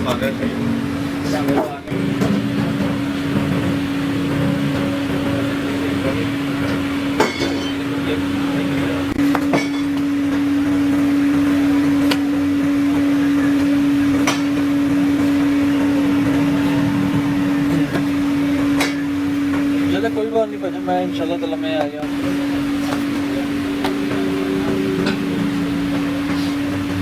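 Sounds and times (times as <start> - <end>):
factory machinery humming: 0.0 - 27.0.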